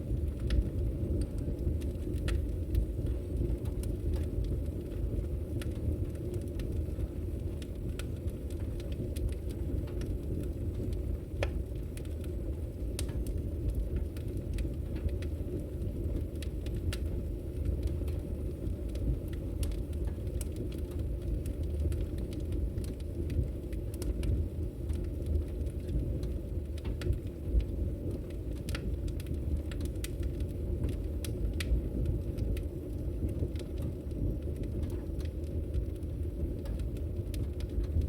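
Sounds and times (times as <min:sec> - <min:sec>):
fire crackling in fireplace: 0:00.0 - 0:38.0.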